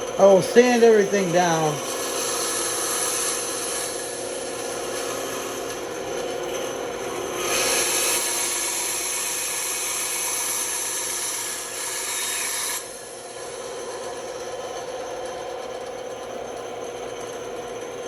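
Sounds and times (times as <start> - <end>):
band saw cutting wood: 0.0 - 14.5.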